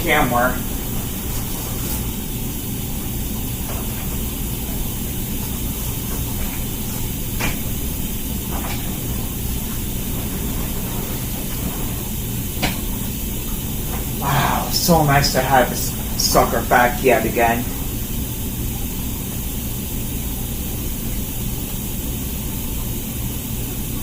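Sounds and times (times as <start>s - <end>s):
dishwasher hum: 0.0s - 24.0s
water spraying inside dishwasher: 0.0s - 24.0s.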